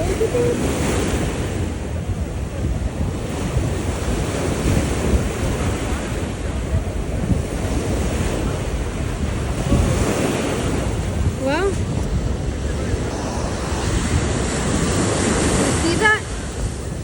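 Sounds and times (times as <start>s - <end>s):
steady rushing noise: 0.0s - 17.0s
wind buffeting microphone: 0.0s - 17.0s.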